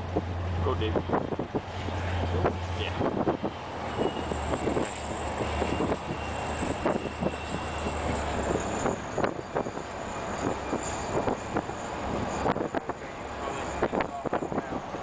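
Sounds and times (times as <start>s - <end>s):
train low drone: 0.0s - 15.0s.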